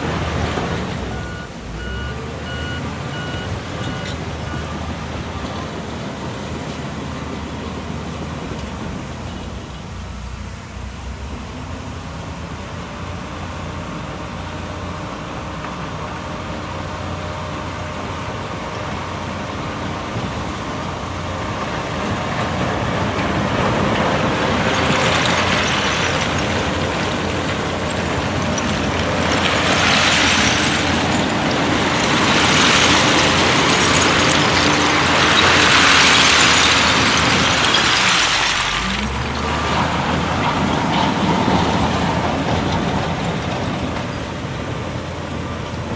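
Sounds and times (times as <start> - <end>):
truck reversing beeps: 0.0 - 9.9, 15.4 - 45.9
diesel machinery engine running: 0.0 - 45.9.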